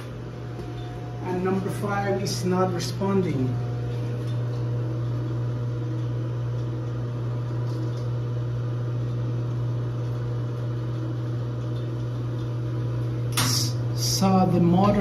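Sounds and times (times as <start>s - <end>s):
valve motor humming: 0.0s - 15.0s.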